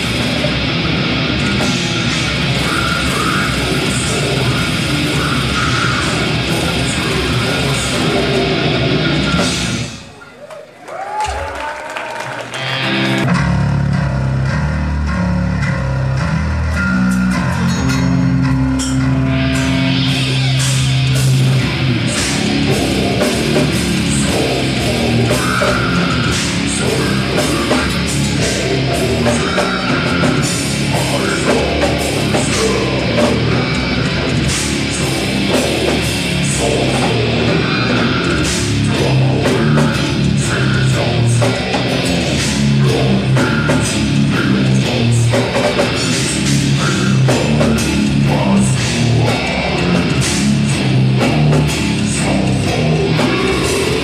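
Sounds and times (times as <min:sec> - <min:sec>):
distorted electric guitars and bass: 0:00.0 - 0:10.3, 0:12.3 - 0:54.0
drum kit and cymbals: 0:00.0 - 0:10.4, 0:12.7 - 0:54.0.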